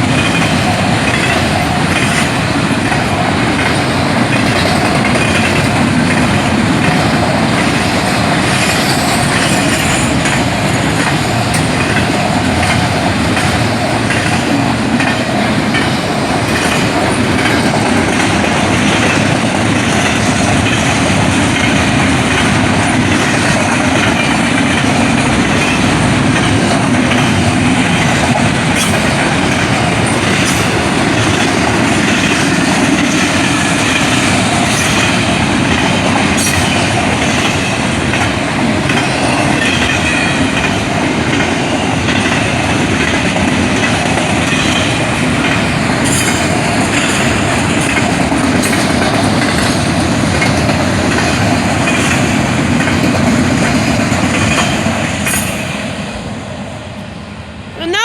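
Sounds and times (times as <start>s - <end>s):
wheels clicking over rail joints: 0.0s - 55.9s
train passing at speed: 0.0s - 58.0s.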